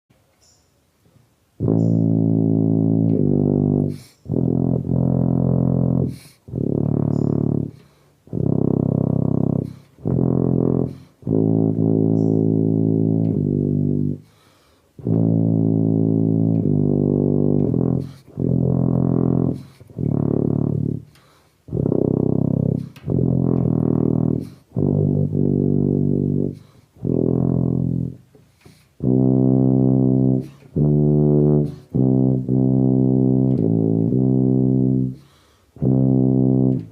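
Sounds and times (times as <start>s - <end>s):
tuba playing hymn melody: 1.5s - 36.9s.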